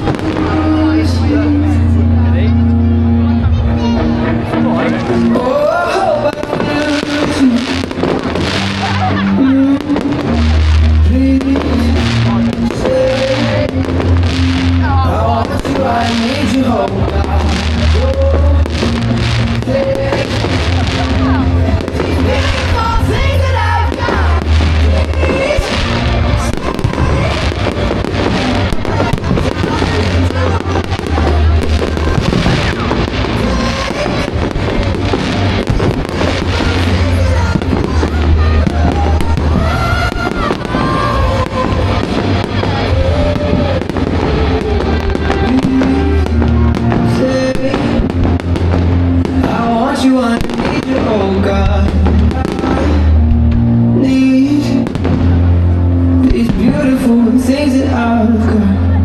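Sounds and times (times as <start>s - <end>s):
fireworks bangs and crackles: 0.0s - 2.4s, 3.1s - 58.6s
music with pulsing bass: 0.0s - 59.0s.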